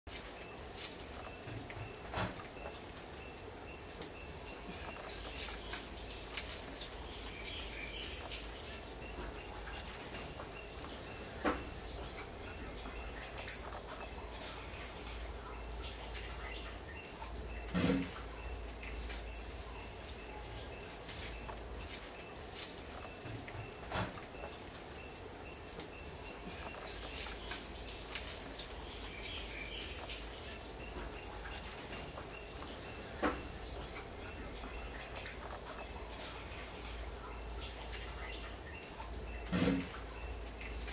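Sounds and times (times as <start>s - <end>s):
insect chirping: 0.1s - 40.9s
insects droning: 0.1s - 40.9s.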